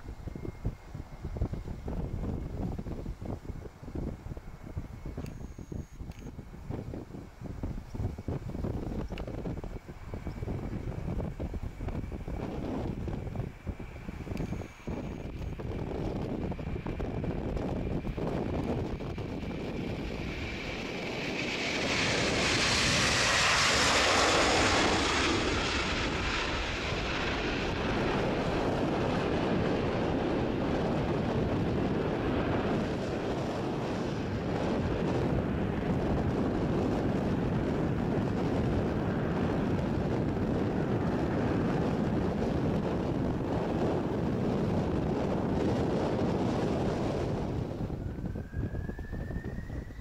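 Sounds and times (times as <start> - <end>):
jet airliner taking off: 0.0 - 50.0.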